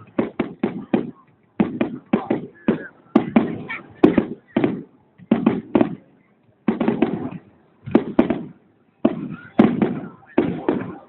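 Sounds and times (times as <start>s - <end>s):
fireworks banging: 0.0s - 11.0s.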